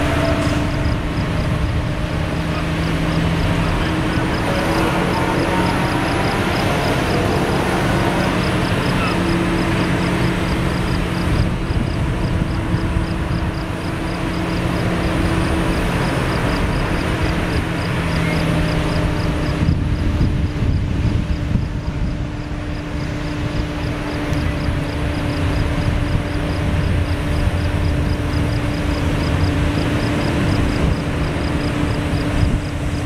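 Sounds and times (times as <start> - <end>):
fire engine motor running: 0.0 - 33.0.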